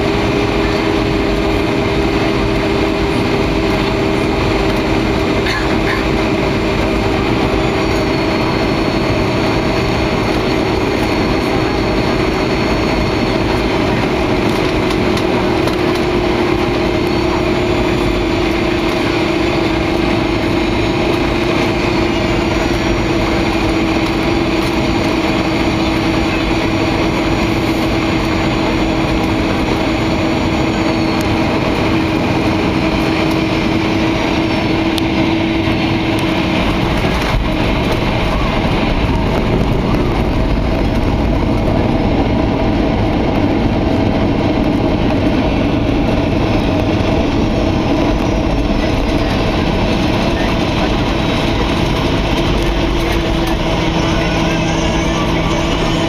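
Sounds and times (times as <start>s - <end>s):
jet engine and airflow roar: 0.0s - 56.0s
low hum: 0.0s - 56.0s
faint high whines: 0.2s - 56.0s.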